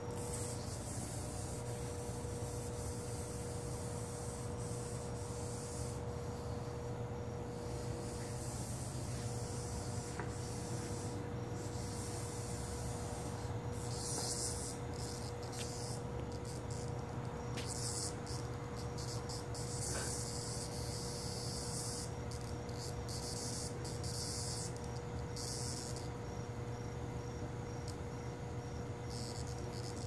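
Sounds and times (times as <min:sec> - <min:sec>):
cicada buzzing: 0:00.0 - 0:30.0
steady low hum: 0:00.0 - 0:30.0.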